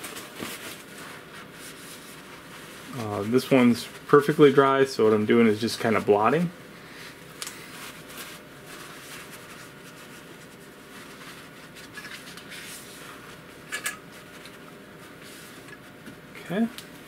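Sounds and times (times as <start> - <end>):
paper towel rustling: 0.0 - 17.0.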